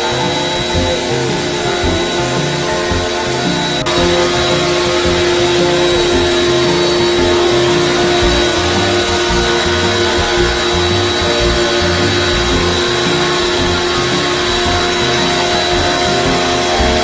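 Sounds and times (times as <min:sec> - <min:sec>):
cleaning machine motor whine: 0:00.0 - 0:17.0.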